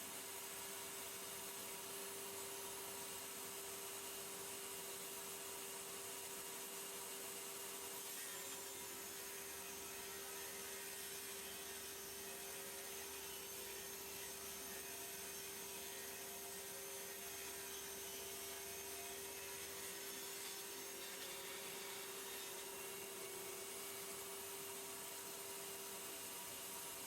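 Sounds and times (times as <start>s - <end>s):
table saw motor whine: 0.2s - 27.0s.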